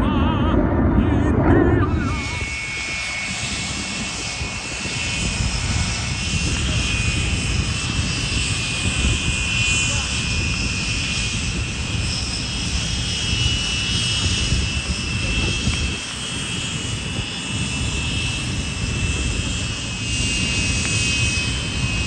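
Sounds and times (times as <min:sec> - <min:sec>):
aircraft engine rumble with high whine: 0:00.0 - 0:22.0.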